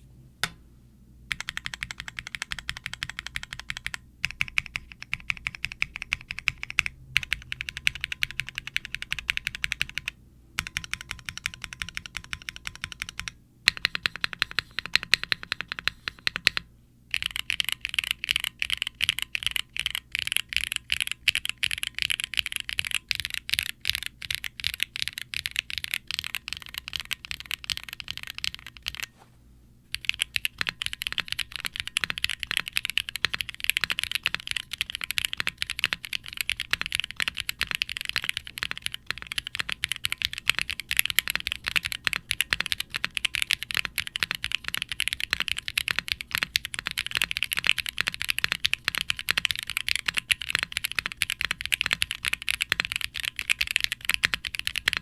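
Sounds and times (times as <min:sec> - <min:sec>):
mechanical keyboard typing: 0:01.3 - 0:29.1, 0:29.9 - 0:55.0.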